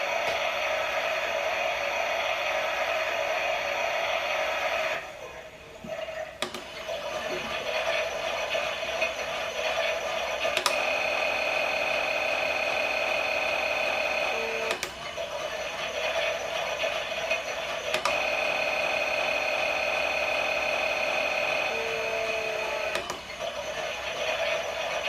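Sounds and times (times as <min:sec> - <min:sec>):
toy washing machine whirring: 0:00.0 - 0:25.0.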